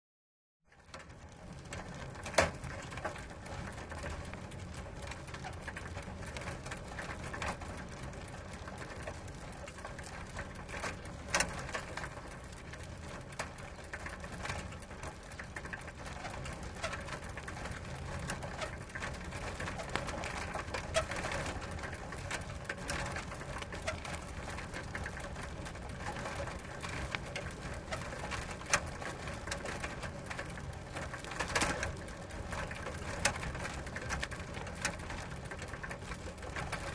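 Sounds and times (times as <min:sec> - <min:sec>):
bicycle chain clicking and rattling: 0:00.7 - 0:36.9.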